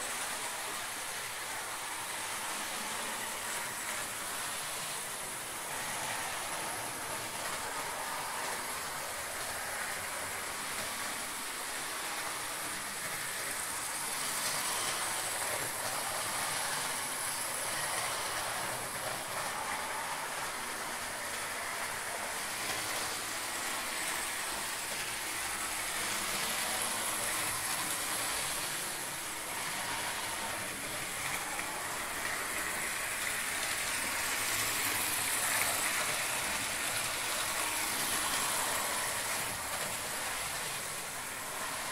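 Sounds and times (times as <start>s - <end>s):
model train motors whirring: 0.0s - 41.9s.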